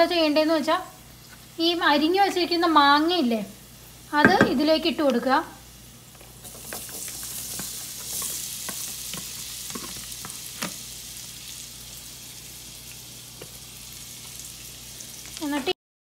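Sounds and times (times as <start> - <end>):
mango sizzling in oil: 0.0 - 15.8.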